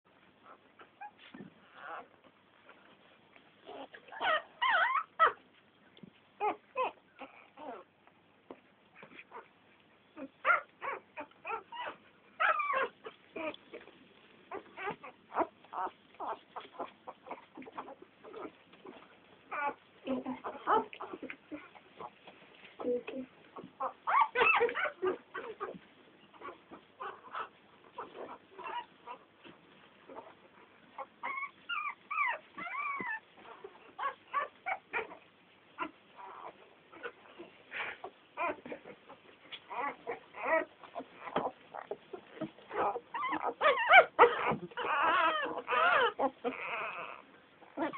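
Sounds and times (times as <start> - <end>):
puppies whimpering and squeaking: 0.1 - 5.7, 6.4 - 8.1, 8.9 - 47.9.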